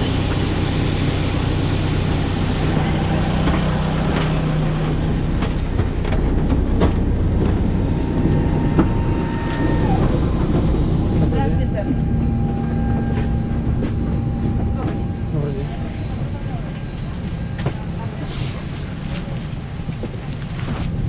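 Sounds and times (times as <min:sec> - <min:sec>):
vehicle interior rumble and rattling: 0:00.0 - 0:21.0.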